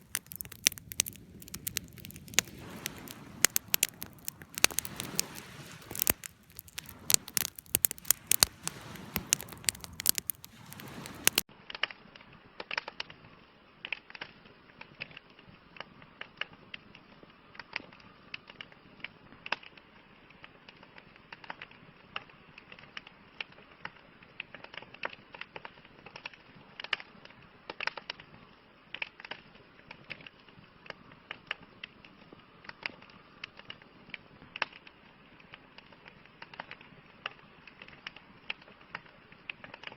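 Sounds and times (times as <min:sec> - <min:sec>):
campfire crackling and popping: 0:00.0 - 0:11.9, 0:13.9 - 0:39.9.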